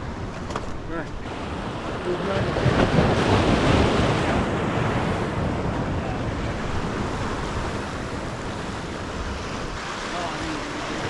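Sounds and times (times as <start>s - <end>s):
wind buffeting microphone: 0.0s - 11.0s
surf breaking on beach: 1.2s - 11.0s.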